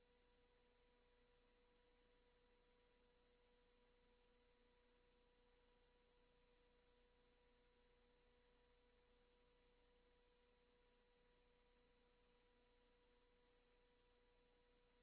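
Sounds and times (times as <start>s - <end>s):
faint electronic whine: 0.0s - 15.0s.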